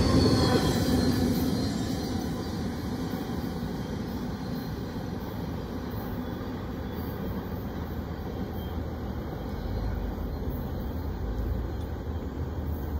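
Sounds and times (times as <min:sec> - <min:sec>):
freight train rumble: 0:00.0 - 0:12.9.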